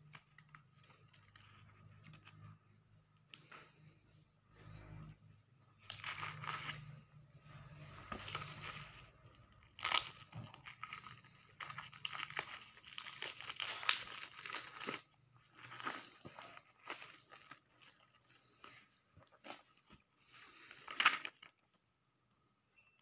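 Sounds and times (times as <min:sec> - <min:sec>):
plastic wrap crinkling and tearing: 0:00.0 - 0:03.5, 0:05.8 - 0:21.8.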